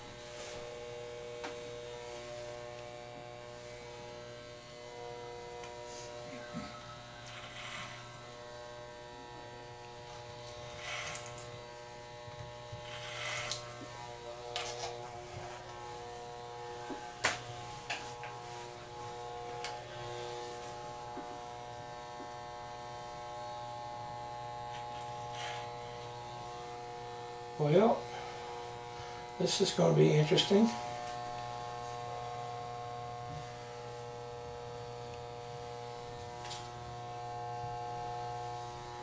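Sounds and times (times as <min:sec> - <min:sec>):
electric hair clippers humming: 0:00.0 - 0:39.0
clipper blades buzzing through hair: 0:00.1 - 0:39.0.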